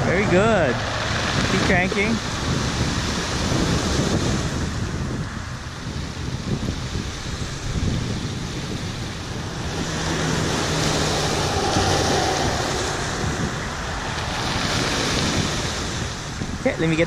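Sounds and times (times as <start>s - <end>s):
ocean surf washing in: 0.0s - 17.0s
wind buffeting microphone: 0.0s - 17.0s.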